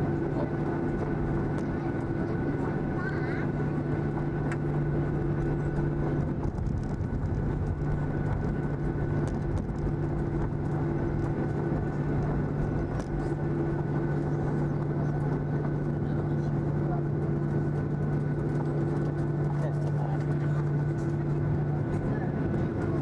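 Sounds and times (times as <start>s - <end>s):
high engine whine: 0.0s - 23.0s
jet engines droning: 0.0s - 23.0s
low rumble: 0.0s - 23.0s.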